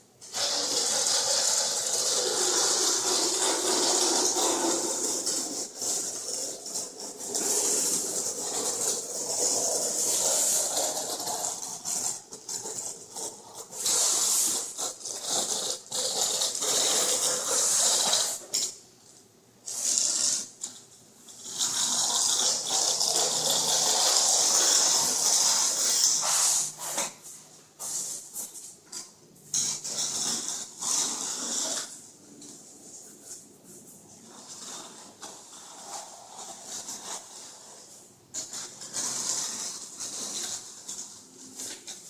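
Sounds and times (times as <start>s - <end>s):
straightedge scraping wet compound: 0.2s - 18.8s, 19.6s - 42.0s.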